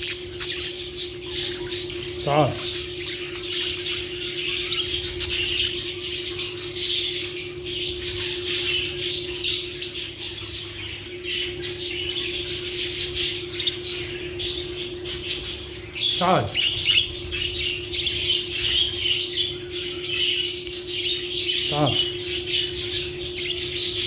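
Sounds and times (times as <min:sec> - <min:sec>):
lovebirds chirping and squawking: 0:00.0 - 0:24.0
steady low hum: 0:00.0 - 0:24.0.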